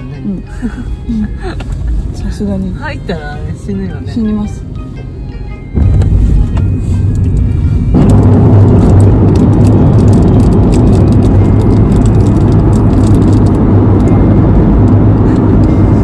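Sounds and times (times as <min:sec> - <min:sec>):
car cabin road and engine drone: 0:00.0 - 0:16.0.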